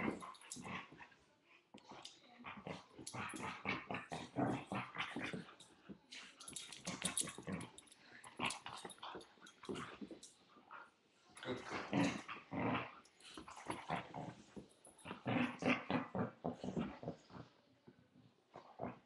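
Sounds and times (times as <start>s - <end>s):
dogs growling while play-fighting: 0.0s - 10.8s, 11.6s - 17.6s, 18.5s - 19.0s.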